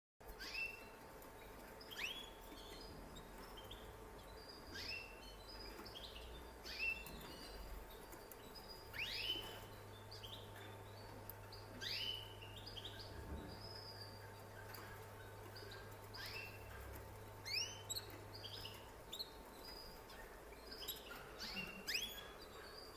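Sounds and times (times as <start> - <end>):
canary chirping: 0.2 - 22.9
faint steady hum: 0.2 - 22.9.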